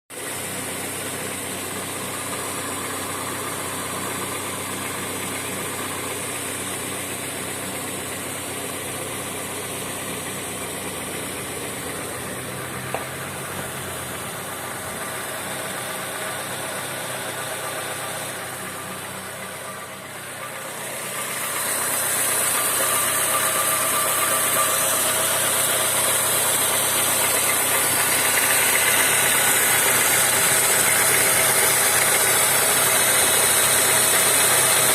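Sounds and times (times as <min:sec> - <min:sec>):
car engine running with knock: 0:00.1 - 0:34.9.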